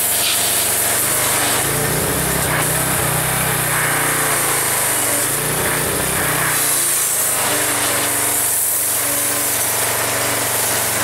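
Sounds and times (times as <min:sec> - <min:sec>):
high-pressure water jet hissing: 0:00.0 - 0:11.0
pressure washer engine hum: 0:00.0 - 0:11.0.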